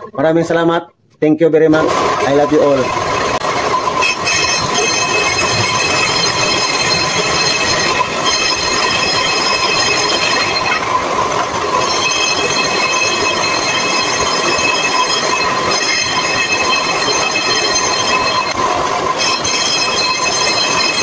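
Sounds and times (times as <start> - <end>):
table saw cutting wood: 1.8 - 21.0.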